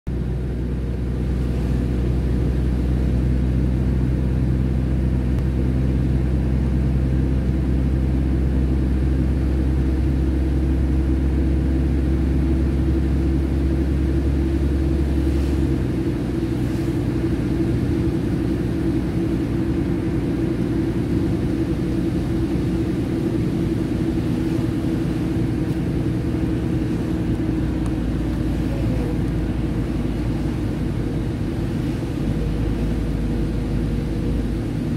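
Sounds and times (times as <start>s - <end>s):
road and engine rumble: 0.0s - 34.9s.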